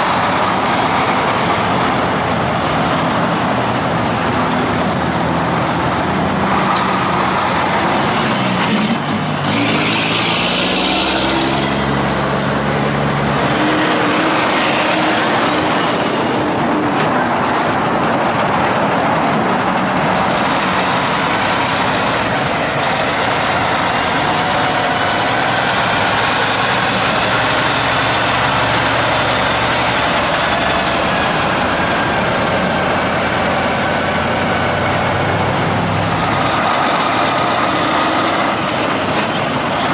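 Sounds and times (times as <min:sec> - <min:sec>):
trucks passing on highway: 0:00.0 - 0:39.9.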